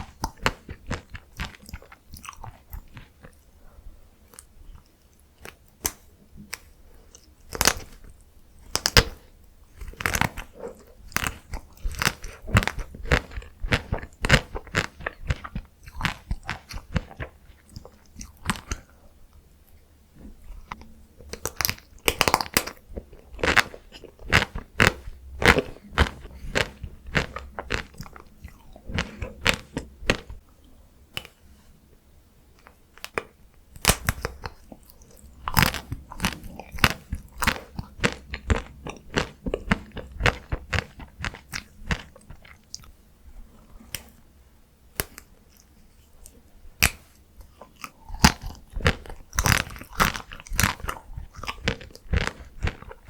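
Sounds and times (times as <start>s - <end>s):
wet chewing: 0.0s - 3.5s, 4.3s - 19.0s, 20.4s - 30.4s, 32.6s - 44.2s, 45.0s - 53.0s.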